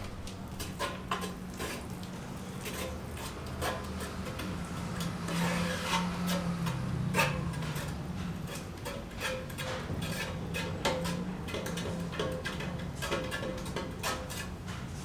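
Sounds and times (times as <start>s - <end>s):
tool scraping a surface: 0.6s - 15.0s.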